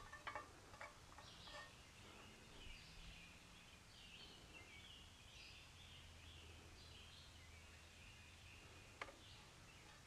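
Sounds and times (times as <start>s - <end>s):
faint bird chirps: 1.1s - 10.0s.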